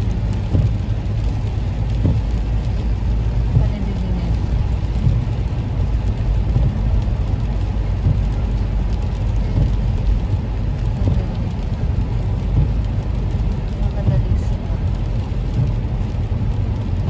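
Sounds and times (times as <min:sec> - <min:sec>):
rain on windscreen: 0:00.0 - 0:17.0
tyre and road noise: 0:00.0 - 0:17.0.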